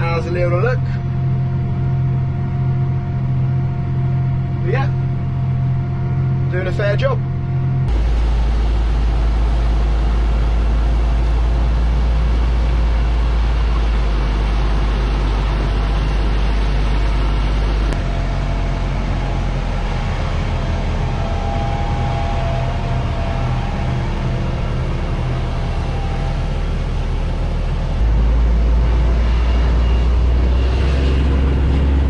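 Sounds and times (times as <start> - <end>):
tractor engine under load: 0.0 - 32.0.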